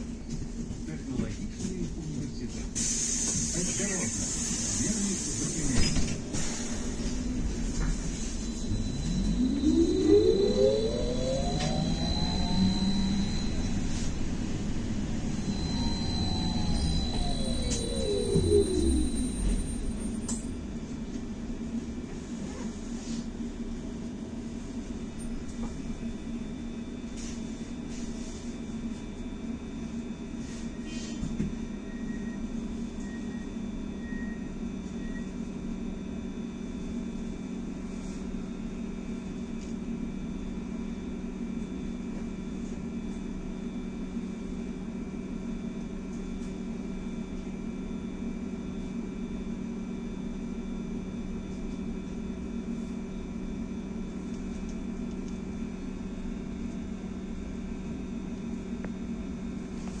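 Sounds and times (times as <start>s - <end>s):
trolleybus electrical hum: 0.0s - 60.0s.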